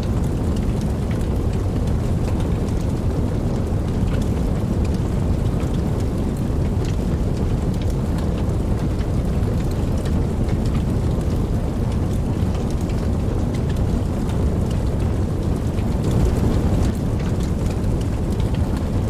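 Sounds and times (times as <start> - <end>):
deep rumble: 0.0 - 19.0
raindrop ticks: 0.0 - 19.0
steady rain: 0.0 - 19.0.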